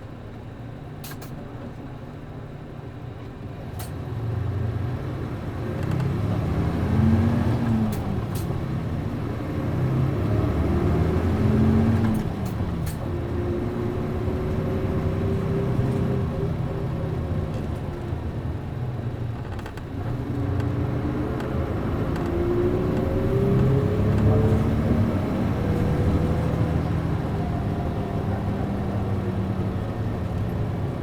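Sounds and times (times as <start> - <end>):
bus diesel engine accelerating: 0.0 - 31.0.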